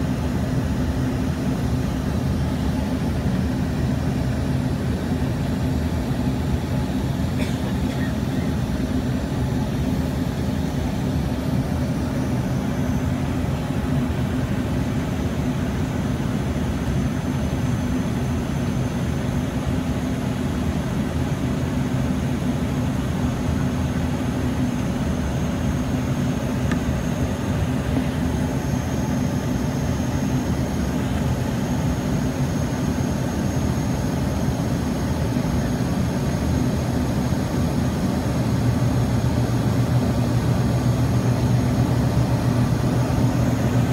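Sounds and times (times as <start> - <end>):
faint high whine: 0.0 - 43.9
jet engine drone: 0.0 - 43.9.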